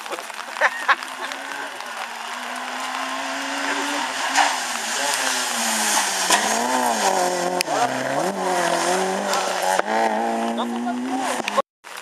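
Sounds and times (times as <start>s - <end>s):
sharp cracks: 0.0s - 10.1s
rally car engine revving: 0.3s - 11.6s.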